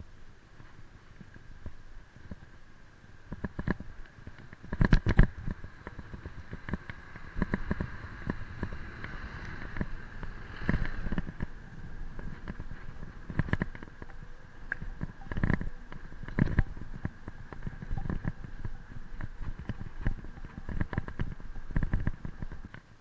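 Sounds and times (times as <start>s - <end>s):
wind rumble on microphone: 0.0s - 23.0s
bicycle rattling and knocking: 3.3s - 22.9s.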